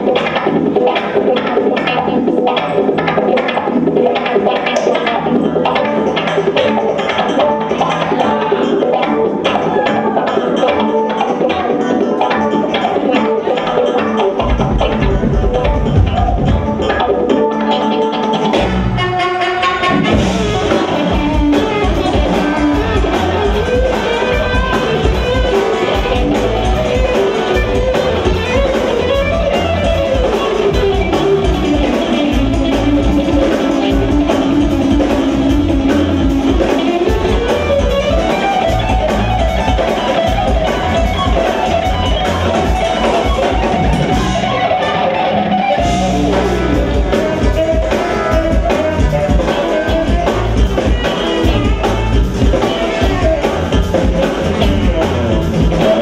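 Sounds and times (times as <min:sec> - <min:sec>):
jazz-fusion band playing live: 0:00.0 - 0:56.0
lead line long held notes: 0:00.0 - 0:56.0.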